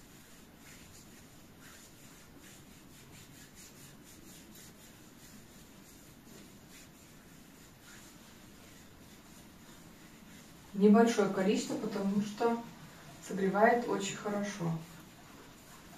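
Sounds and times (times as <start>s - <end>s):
hand rubbing cream on skin: 0.0s - 15.9s.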